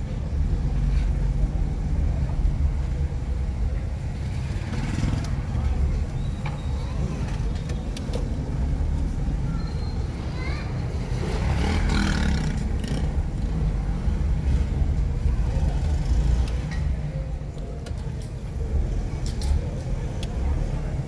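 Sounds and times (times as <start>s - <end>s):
faint voices: 0.0s - 21.0s
low rumble of motor vehicles: 0.0s - 21.0s.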